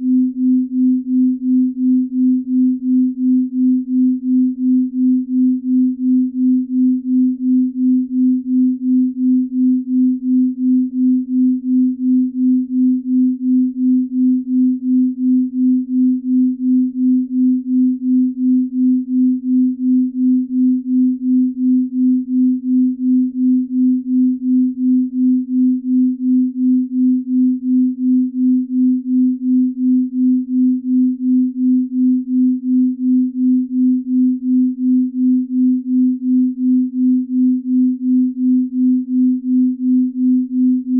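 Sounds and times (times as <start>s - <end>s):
pulsing low sine tone: 0.0s - 40.9s.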